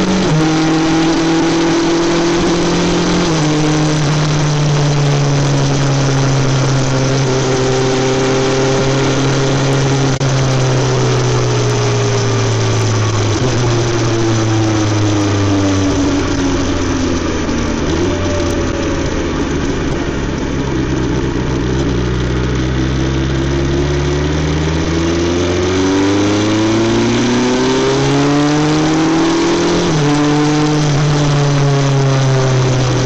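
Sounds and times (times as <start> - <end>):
motorcycle engine running: 0.0 - 33.0
wind and road noise: 0.0 - 33.0.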